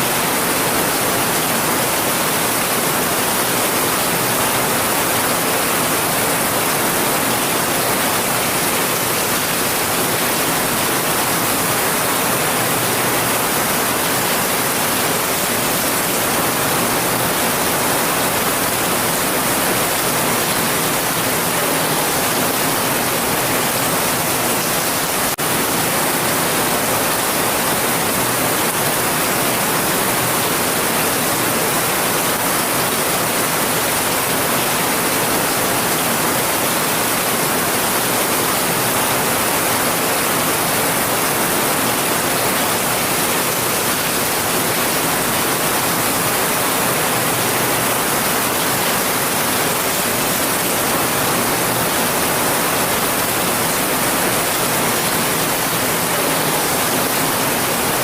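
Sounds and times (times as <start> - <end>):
heavy rain falling: 0.1 - 58.0.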